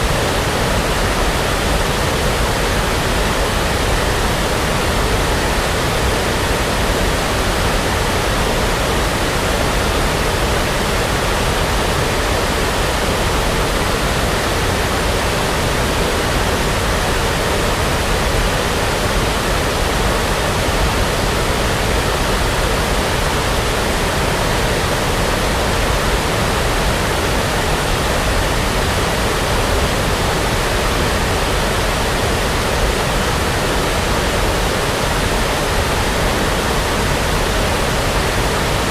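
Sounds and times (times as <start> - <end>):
steady brown noise hiss: 0.0 - 38.9.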